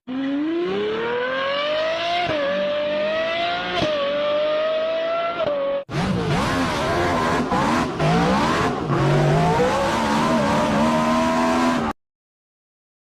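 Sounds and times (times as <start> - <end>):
car engine revving hard: 0.1 - 12.0.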